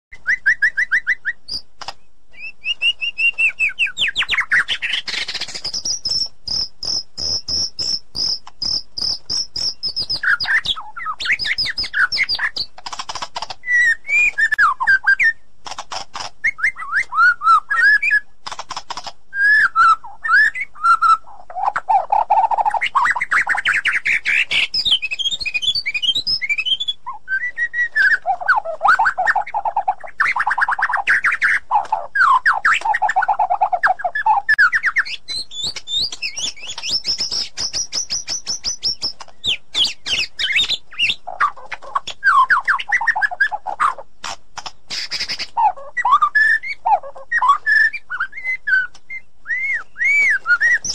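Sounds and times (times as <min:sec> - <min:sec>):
songbird singing varied song: 0:00.1 - 0:15.5, 0:16.4 - 0:44.1, 0:44.8 - 0:50.9.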